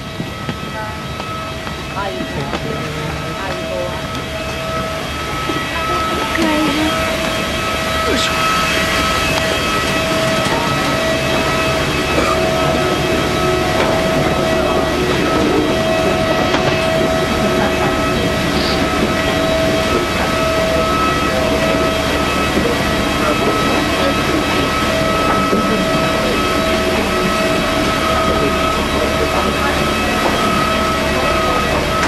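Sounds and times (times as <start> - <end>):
machinery whine and hum: 0.0 - 32.0.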